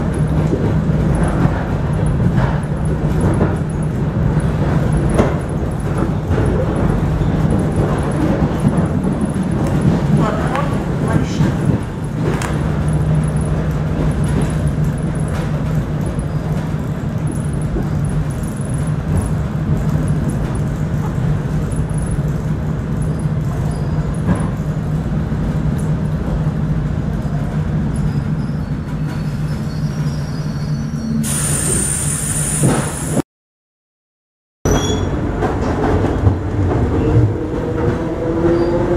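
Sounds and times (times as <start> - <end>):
train carriage rumble and rattle: 0.0 - 33.2, 34.7 - 38.9.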